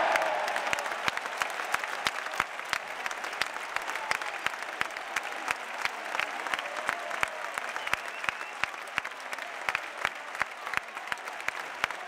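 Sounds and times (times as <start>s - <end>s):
close sharp claps: 0.0s - 12.0s
crowd applauding: 0.0s - 12.0s.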